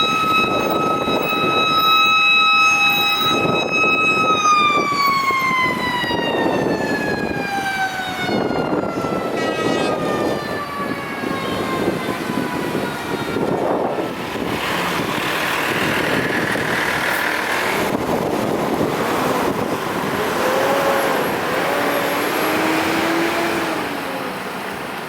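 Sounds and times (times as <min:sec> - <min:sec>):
road vehicle noise: 0:00.0 - 0:25.0.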